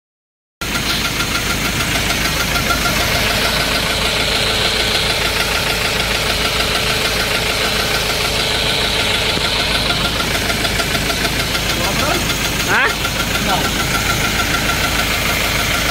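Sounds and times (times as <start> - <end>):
car engine running: 0.6 - 15.9
rhythmic engine knock: 0.6 - 15.9.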